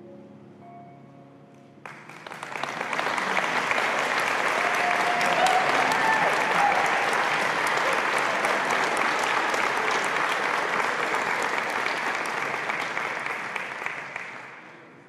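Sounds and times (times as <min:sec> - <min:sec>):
crowd applauding: 0:01.8 - 0:15.0.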